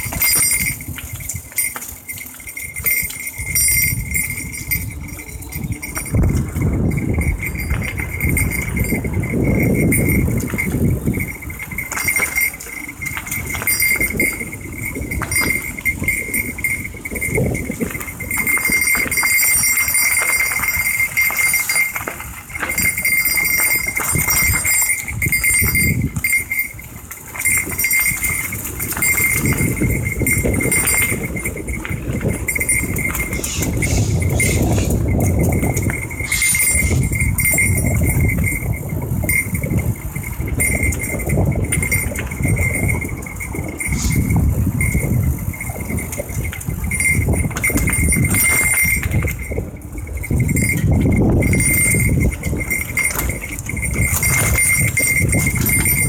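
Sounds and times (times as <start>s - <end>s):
small metal bell jingling: 0.0s - 56.0s
wind: 0.0s - 56.0s.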